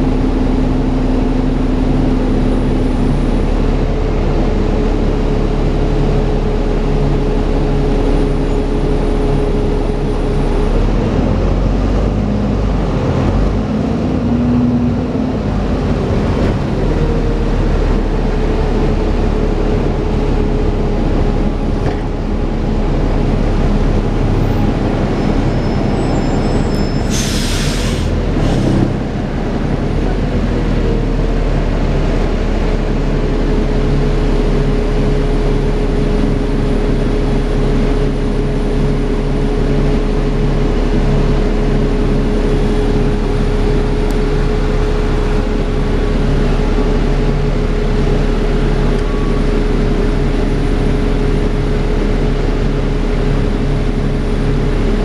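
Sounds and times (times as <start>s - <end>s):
bus engine whine: 0.0s - 55.0s.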